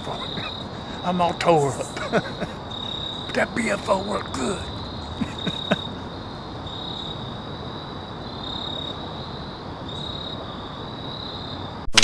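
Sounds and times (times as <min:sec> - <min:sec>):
crickets trilling: 0:00.0 - 0:11.8.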